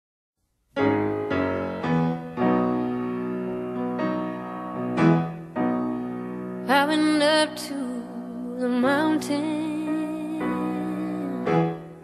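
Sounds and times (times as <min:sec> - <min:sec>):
slow piano chords: 0:00.8 - 0:12.0.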